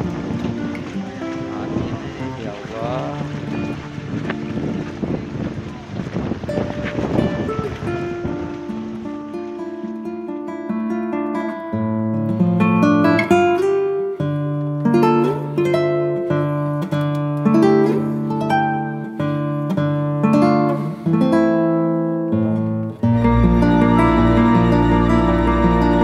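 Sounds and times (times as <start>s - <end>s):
plucked acoustic guitar: 0.0s - 26.0s.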